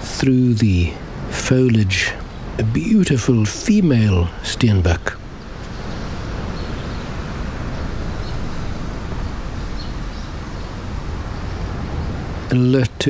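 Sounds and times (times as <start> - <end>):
outdoor rumble with hiss: 0.0 - 13.0.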